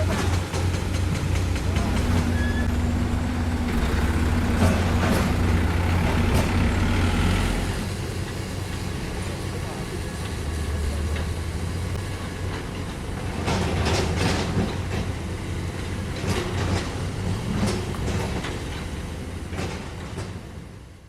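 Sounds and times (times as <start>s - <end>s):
heavy diesel machine running: 0.0s - 21.0s.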